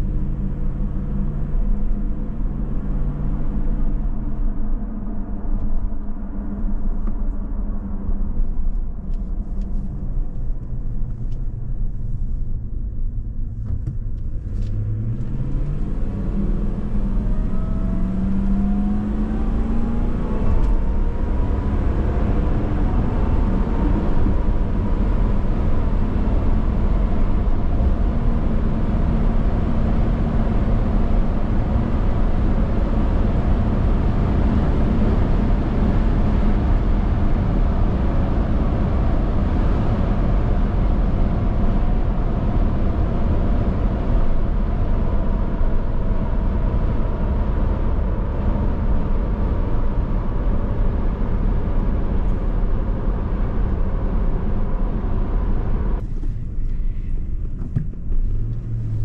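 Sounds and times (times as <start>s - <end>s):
car engine accelerating: 0.0s - 59.0s
road noise: 0.0s - 59.0s
supercharger whine: 0.0s - 59.0s.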